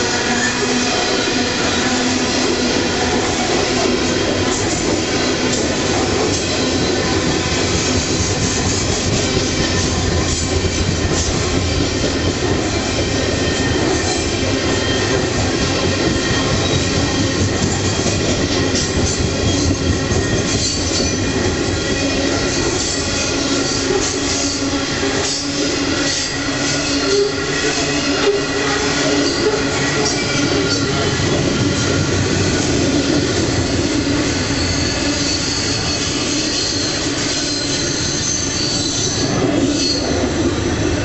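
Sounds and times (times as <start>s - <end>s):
high wheel squeal: 0.0s - 41.0s
wagon wheels clattering on rail: 3.1s - 40.2s.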